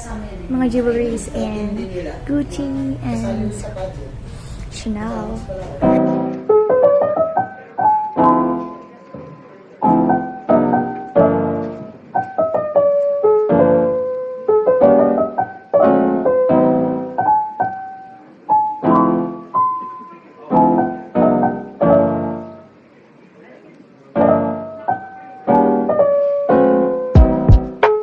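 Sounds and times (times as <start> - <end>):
piano music: 0.0 - 23.0, 24.0 - 28.0.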